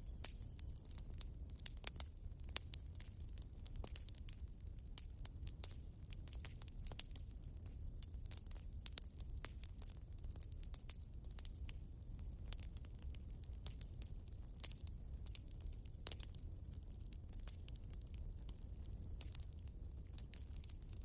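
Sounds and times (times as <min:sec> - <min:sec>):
logs crackling in fireplace: 0:00.0 - 0:21.0.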